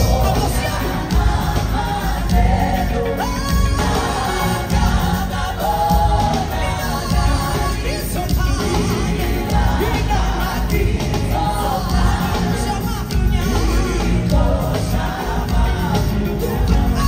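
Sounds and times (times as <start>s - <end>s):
band playing: 0.0s - 17.0s
singers singing gospel: 0.0s - 17.0s.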